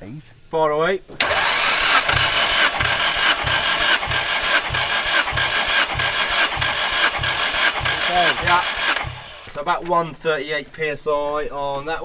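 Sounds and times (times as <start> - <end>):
engine cranking on starter: 1.1 - 11.0.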